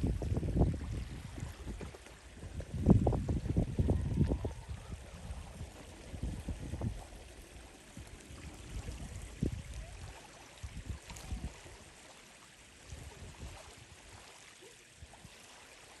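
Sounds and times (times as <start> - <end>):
water lapping and splashing: 0.0 - 16.0.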